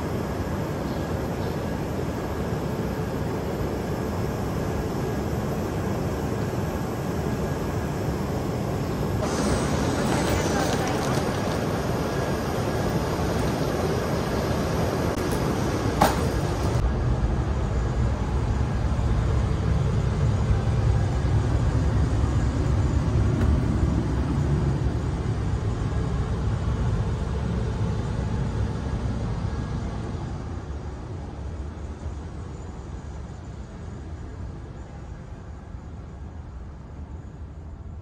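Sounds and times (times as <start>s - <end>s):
train equipment low rumble: 0.0s - 38.0s.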